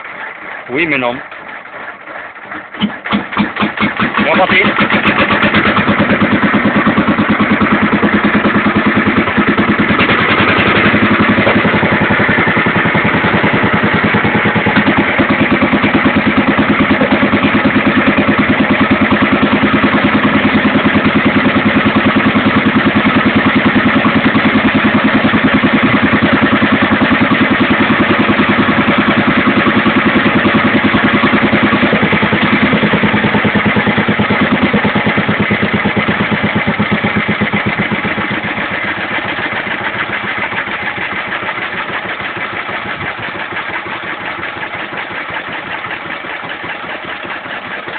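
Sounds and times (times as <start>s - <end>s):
stationary engine running: 0.0s - 47.9s.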